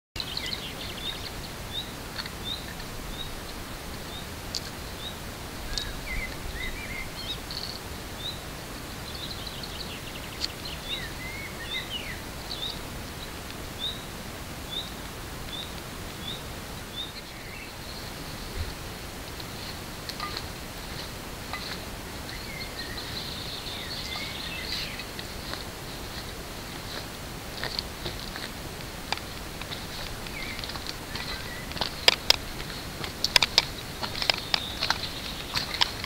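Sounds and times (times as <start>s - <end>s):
birds twittering: 0.2s - 36.0s
steady background noise: 0.2s - 36.0s.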